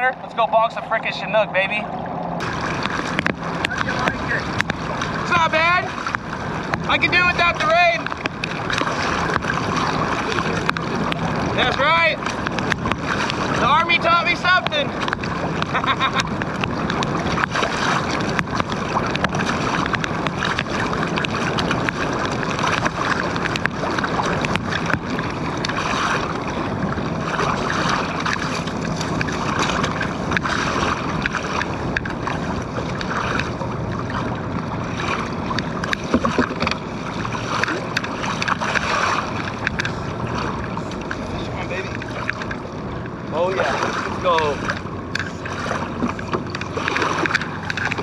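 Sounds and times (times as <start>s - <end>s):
water splashing against kayak hull: 0.0s - 48.0s
wind on microphone: 0.0s - 48.0s.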